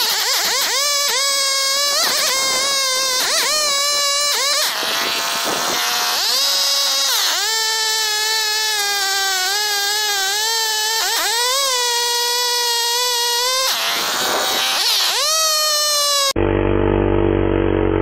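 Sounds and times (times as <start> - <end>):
chainsaw cutting a log: 0.0 - 16.4.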